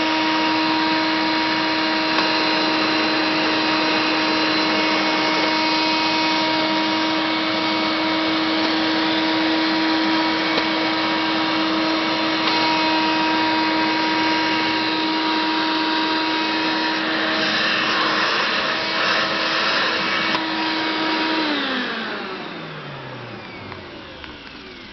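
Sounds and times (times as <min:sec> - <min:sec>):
upright vacuum cleaner running: 0:00.0 - 0:24.9
vacuum motor winding down: 0:00.0 - 0:24.9.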